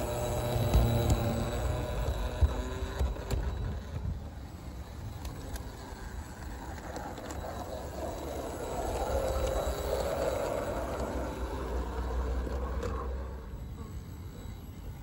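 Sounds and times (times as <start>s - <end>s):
model locomotive humming on track: 0.0s - 15.0s.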